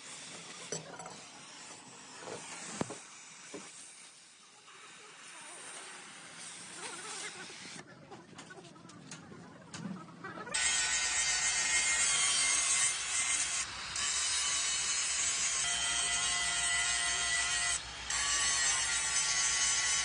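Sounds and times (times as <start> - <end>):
power tool rasping on metal: 0.0 - 7.8, 10.6 - 20.0.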